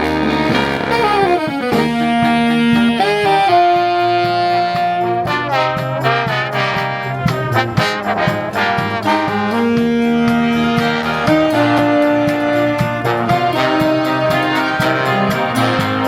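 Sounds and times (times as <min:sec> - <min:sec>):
horn notes: 0:00.0 - 0:16.0
steady drum beat: 0:00.0 - 0:16.0
swing jazz band playing: 0:00.0 - 0:16.0.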